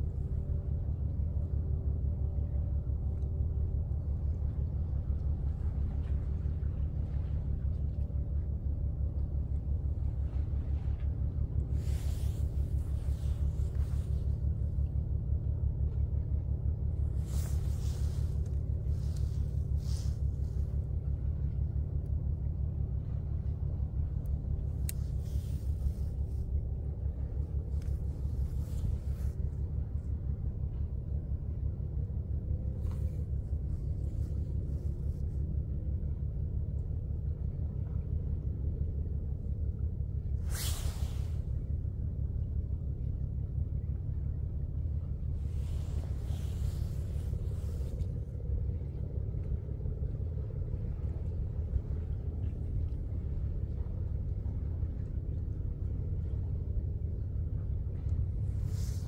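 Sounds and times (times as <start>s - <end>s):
ship engines rumbling: 0.0s - 59.0s.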